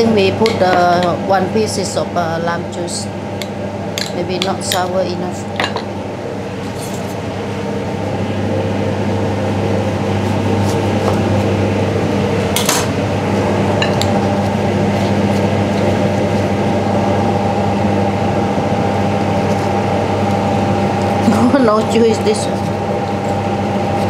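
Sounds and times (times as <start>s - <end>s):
extractor fan hum: 0.0s - 24.0s.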